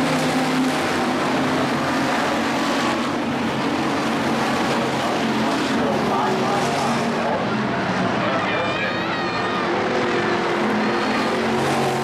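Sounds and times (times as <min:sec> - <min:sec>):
racing car engines droning: 0:00.0 - 0:12.0.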